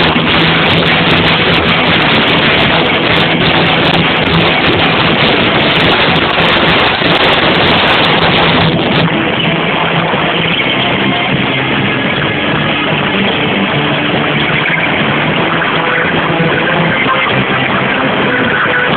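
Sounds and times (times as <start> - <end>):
distorted live rock band: 0.0 - 18.9
steady low note: 0.0 - 18.9.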